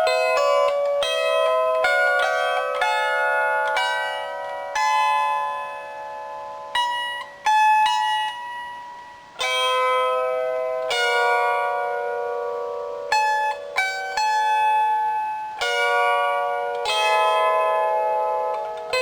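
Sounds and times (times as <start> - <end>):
lyre plucked melody: 0.0 - 19.0.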